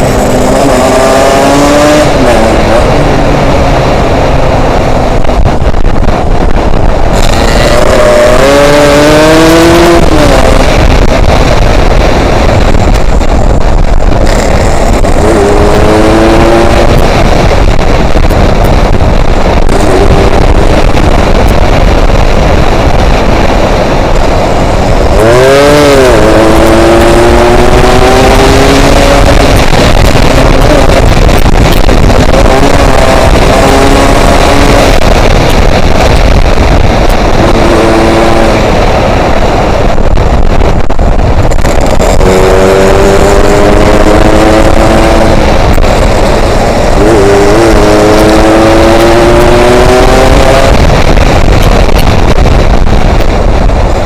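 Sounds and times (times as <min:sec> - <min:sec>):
motorcycle engine accelerating: 0:00.0 - 0:54.0
wind noise on microphone: 0:00.0 - 0:54.0.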